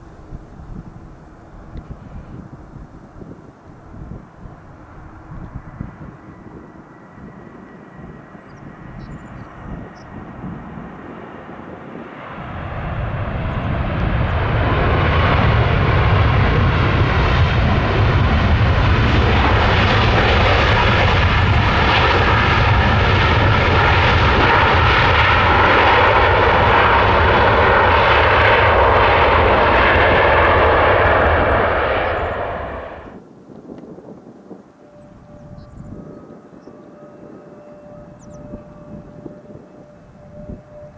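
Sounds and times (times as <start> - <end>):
airliner engines whining: 0.0 - 40.9.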